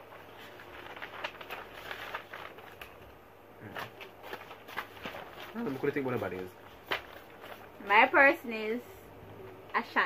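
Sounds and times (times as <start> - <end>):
paper rustling and crackling: 0.0 - 8.4.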